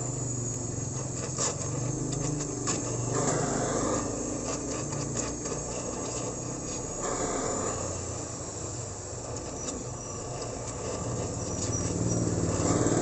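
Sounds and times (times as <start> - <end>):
steady low hum: 0.0 - 13.0
welding torch flame hissing: 0.0 - 13.0
crackles and scratches of filler rod: 0.4 - 8.2, 9.2 - 13.0.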